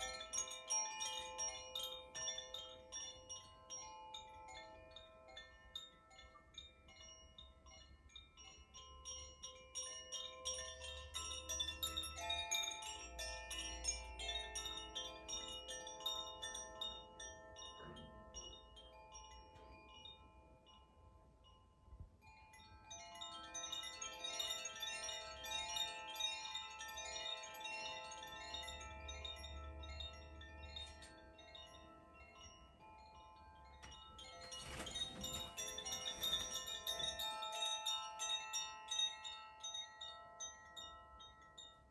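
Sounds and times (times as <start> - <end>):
shimmering chimes: 0.0 - 41.9.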